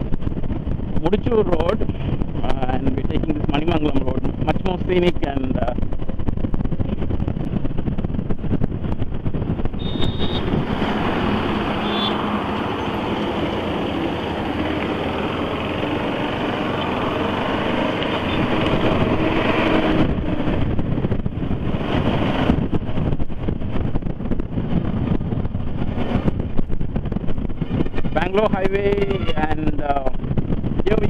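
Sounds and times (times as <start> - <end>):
wind buffeting microphone: 0.0 - 31.0
motorcycle engine running: 5.3 - 30.8.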